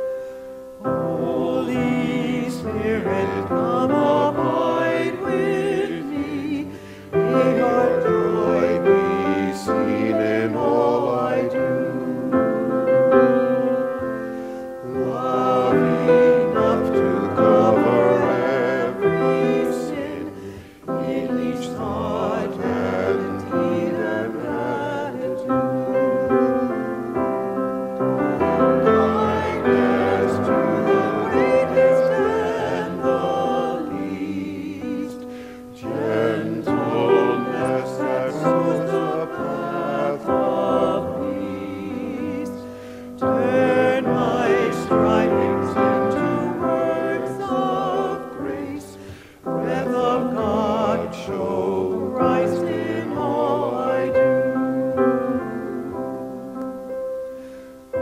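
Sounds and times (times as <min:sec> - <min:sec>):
group singing a hymn: 0:00.0 - 0:58.0
piano accompaniment: 0:00.0 - 0:58.0.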